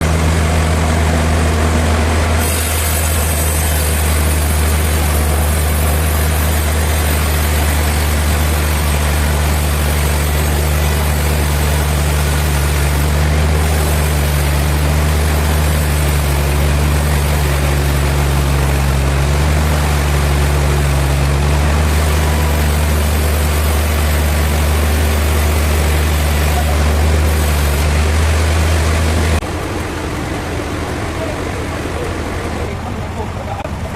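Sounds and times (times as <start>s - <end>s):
low engine drone: 0.0s - 33.9s.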